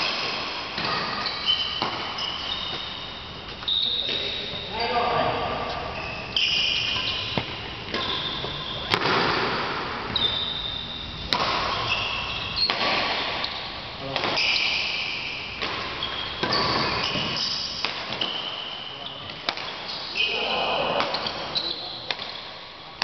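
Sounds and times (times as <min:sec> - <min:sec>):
rackets hitting shuttlecock: 0:00.0 - 0:04.3, 0:05.2 - 0:18.6, 0:19.2 - 0:23.0
shoes squeaking on court floor: 0:00.1 - 0:22.5.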